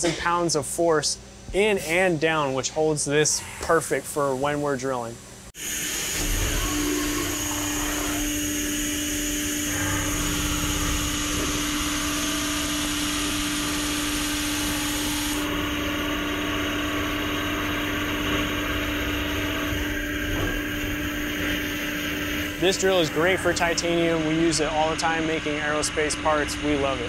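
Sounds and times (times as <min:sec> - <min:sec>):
machine hum with constant tone: 0:00.0 - 0:27.0.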